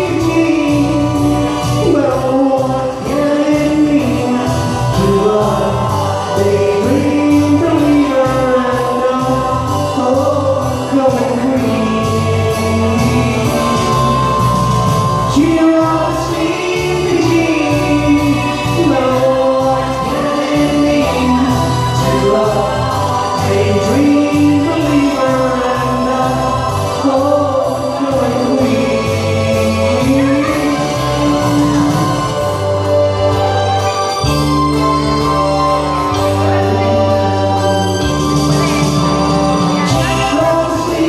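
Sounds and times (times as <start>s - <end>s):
man singing into microphone: 0.0s - 33.6s, 35.1s - 41.0s
backing track with steady beat: 0.0s - 41.0s.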